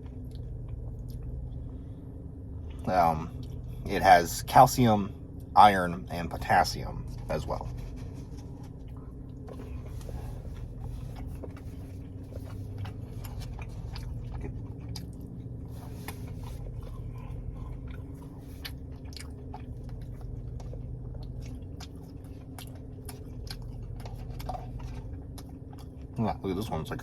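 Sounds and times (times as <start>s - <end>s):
crunchy chewing: 0.0s - 2.0s, 6.2s - 27.0s
steady low hum: 0.0s - 27.0s.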